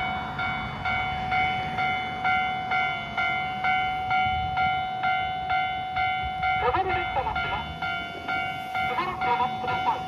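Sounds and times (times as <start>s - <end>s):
held warning tone: 0.0s - 10.0s
level crossing warning bell: 0.0s - 10.0s.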